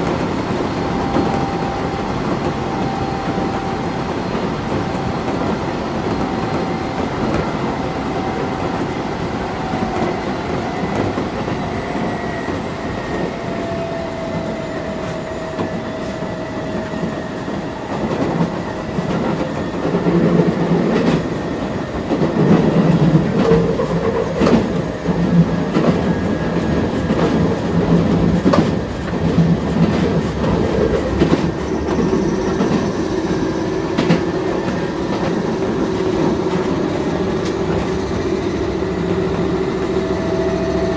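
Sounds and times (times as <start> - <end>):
electric train motor whine: 0.0 - 19.7, 20.4 - 40.9.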